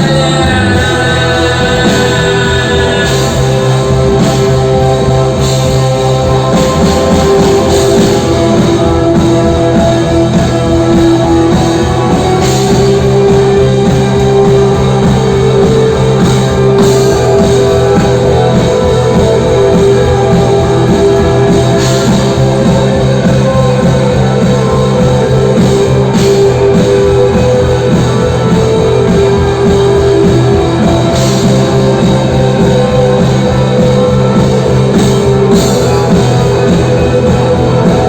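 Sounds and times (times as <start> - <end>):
loud rock music: 0.0 - 38.0.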